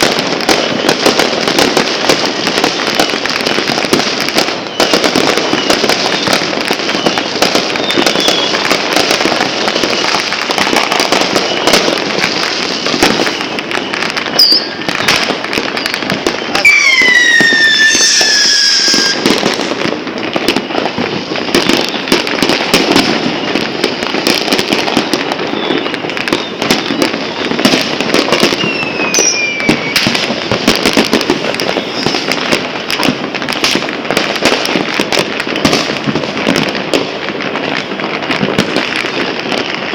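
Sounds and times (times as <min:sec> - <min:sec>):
whistling firework falling in pitch: 0:00.0 - 0:33.7
fireworks crackling and banging: 0:00.0 - 0:39.9.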